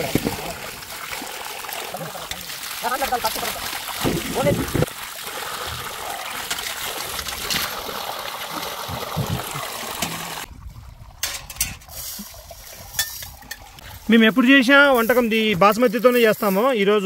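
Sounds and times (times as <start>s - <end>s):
water pouring: 0.0s - 16.7s.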